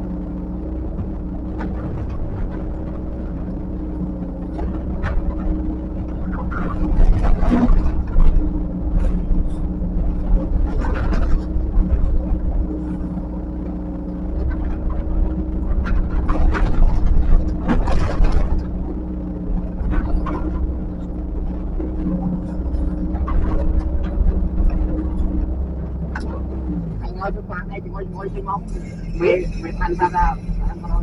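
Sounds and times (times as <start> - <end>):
heavy machine engine running: 0.0 - 31.0.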